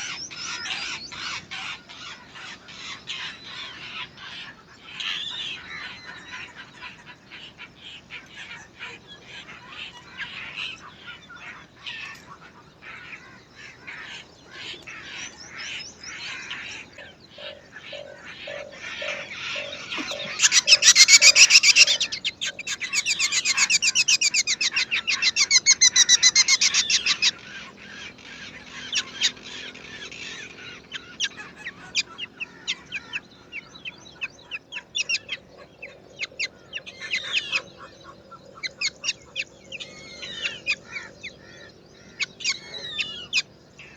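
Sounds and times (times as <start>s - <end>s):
nestlings begging calls: 0.0s - 43.9s.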